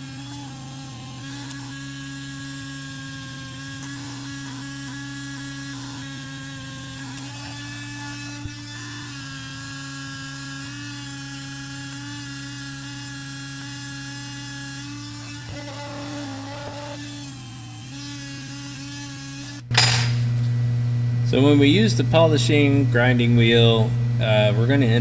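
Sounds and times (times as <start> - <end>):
rotary tool motor whine: 0.0 - 20.6.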